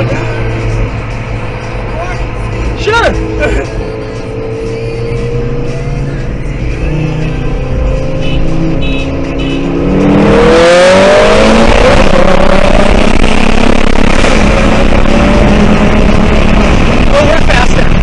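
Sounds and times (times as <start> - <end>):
car engine accelerating: 0.0 - 18.0
wind and road noise: 0.0 - 18.0.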